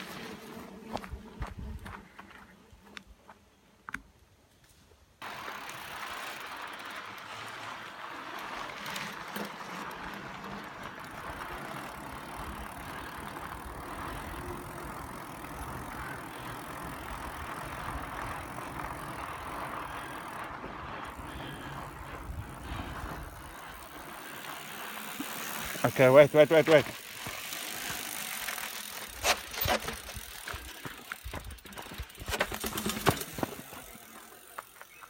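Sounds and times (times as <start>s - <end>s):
bicycle tyres rolling on road: 0.0s - 3.4s, 5.2s - 35.0s.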